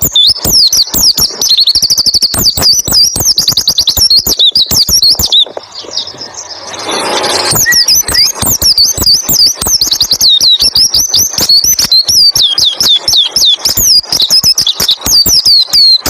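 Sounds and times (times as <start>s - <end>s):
bird chirps and trills: 0.0s - 16.0s
rustling noise: 2.4s - 15.3s.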